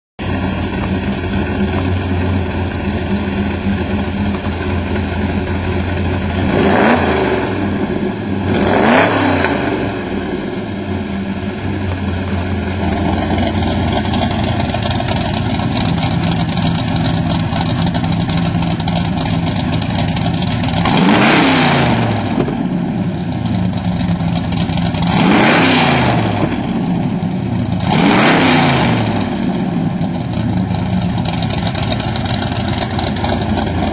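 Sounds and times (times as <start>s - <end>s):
engine revving in short blips: 0.2s - 31.7s
diesel engine idling: 0.2s - 33.9s.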